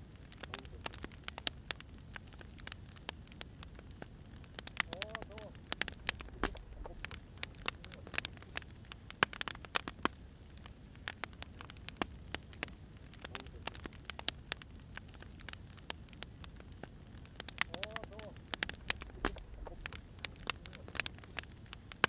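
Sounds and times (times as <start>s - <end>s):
fire low rumble: 0.0s - 22.0s
firewood crackling and popping: 0.0s - 22.0s.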